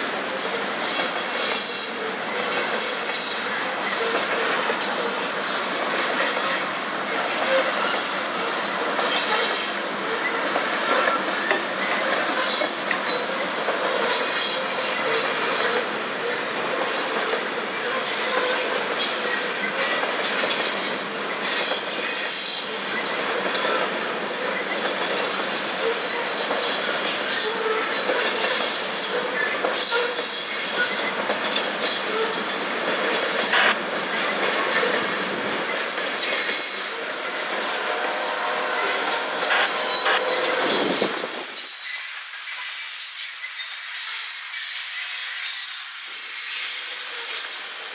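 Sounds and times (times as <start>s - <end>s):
train cars rumbling and clattering: 0.0s - 47.9s
train wheels squealing on rails: 0.0s - 47.9s.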